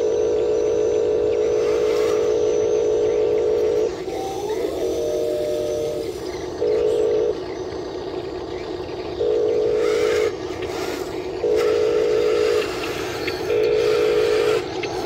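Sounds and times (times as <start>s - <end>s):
electronic warning beeps: 0.0s - 15.0s
motor hum: 0.0s - 15.0s.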